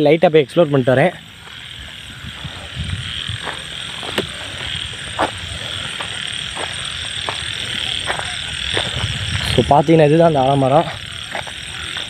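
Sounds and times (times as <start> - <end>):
high-pitched frog chorus: 0.0 - 12.0
frog croaks: 0.8 - 9.6, 10.5 - 12.0.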